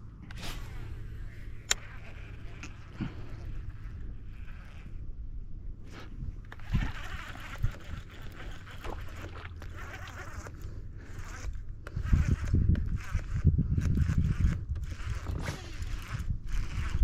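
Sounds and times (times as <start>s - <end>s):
fishing reel whirring: 0.2s - 5.2s, 5.8s - 17.0s.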